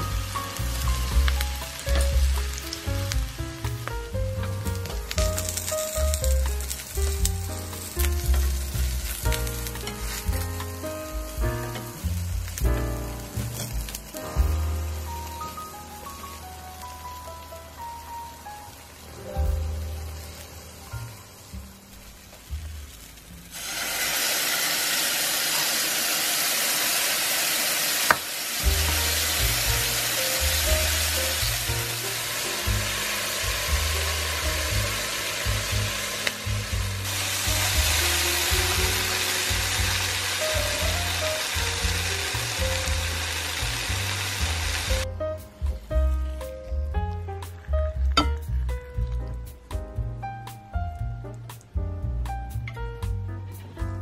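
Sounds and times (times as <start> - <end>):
background music with bass line: 0.0 - 16.7, 19.1 - 23.6, 28.6 - 54.0
vegetables sizzling in oil: 0.0 - 45.1.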